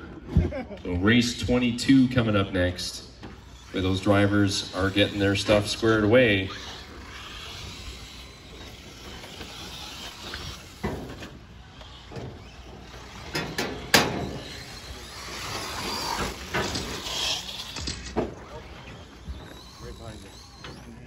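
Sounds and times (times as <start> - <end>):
rc truck motor whine: 0.0 - 21.0
tyres on dirt: 0.0 - 21.0.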